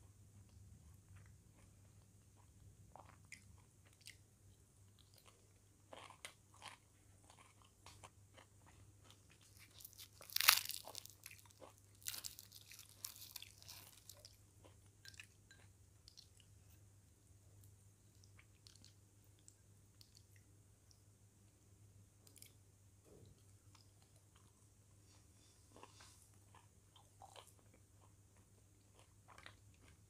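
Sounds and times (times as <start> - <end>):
person chewing and crunching food: 0.1 - 16.8, 17.6 - 21.0, 22.2 - 30.0.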